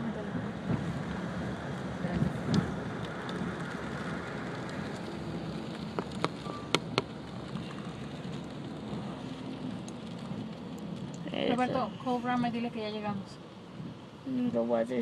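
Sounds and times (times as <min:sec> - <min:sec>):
rain on car: 0:00.0 - 0:15.0
road noise: 0:00.0 - 0:15.0.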